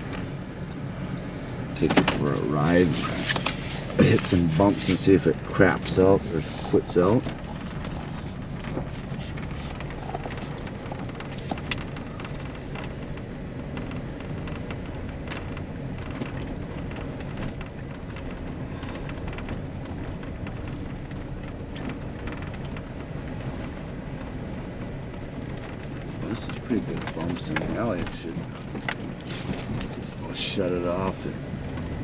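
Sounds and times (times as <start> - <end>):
car engine running: 0.0 - 32.0
road noise inside cab: 0.0 - 32.0
light knocks and rattles: 3.3 - 32.0.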